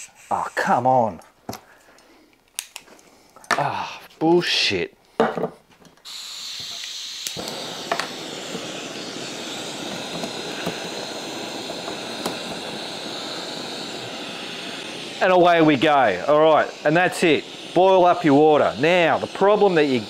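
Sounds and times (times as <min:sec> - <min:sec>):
gas burner hissing: 0:00.0 - 0:04.9, 0:06.0 - 0:20.0.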